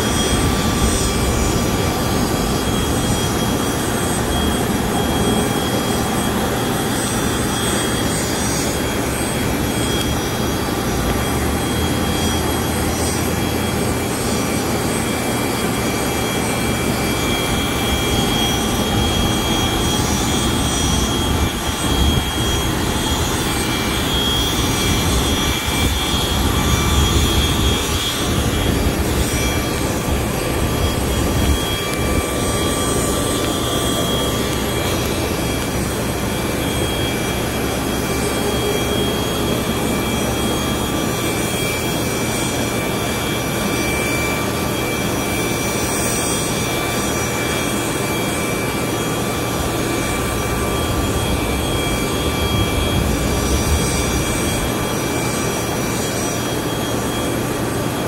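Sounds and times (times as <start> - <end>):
jet turbine engines whining: 0.0 - 58.0.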